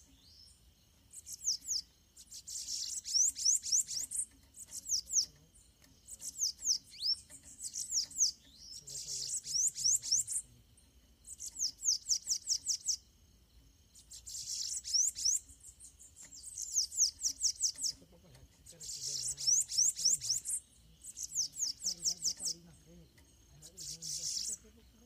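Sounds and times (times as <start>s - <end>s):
birds singing high thin notes: 0.0s - 25.0s.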